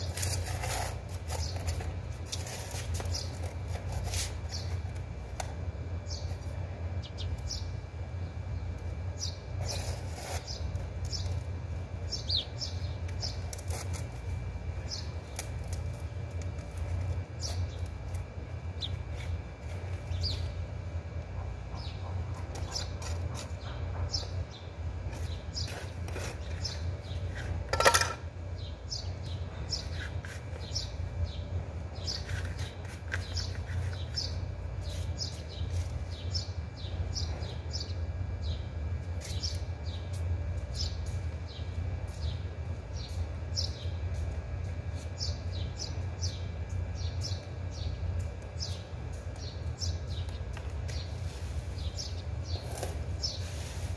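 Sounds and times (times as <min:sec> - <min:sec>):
steady low hum: 0:00.0 - 0:53.9
small birds chirping: 0:01.3 - 0:04.9, 0:06.0 - 0:11.5, 0:12.1 - 0:14.0, 0:14.8 - 0:15.5, 0:17.4 - 0:20.7, 0:21.6 - 0:27.6, 0:28.6 - 0:44.0, 0:44.9 - 0:53.9.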